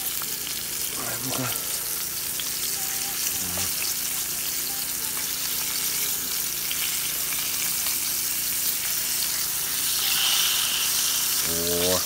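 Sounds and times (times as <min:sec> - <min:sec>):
fish sizzling in hot oil: 0:00.0 - 0:12.0
spoon basting crackles: 0:00.0 - 0:12.0.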